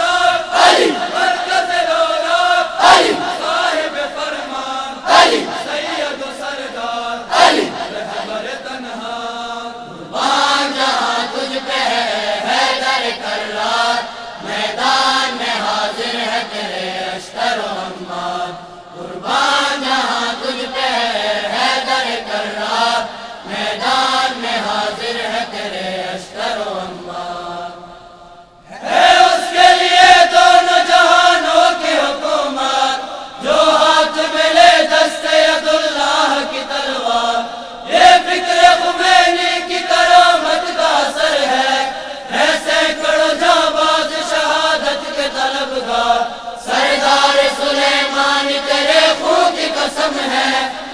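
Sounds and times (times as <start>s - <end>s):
choir singing in chorus: 0.0s - 50.9s.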